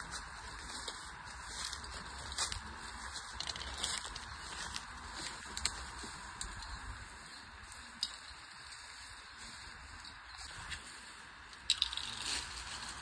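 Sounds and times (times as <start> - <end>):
dry leaves crackling underfoot: 0.0 - 13.0
steady outdoor hiss: 0.0 - 13.0.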